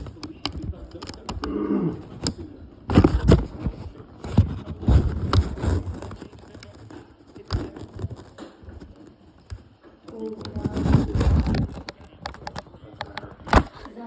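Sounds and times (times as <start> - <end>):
plastic and cardboard crackling: 0.0 - 14.0.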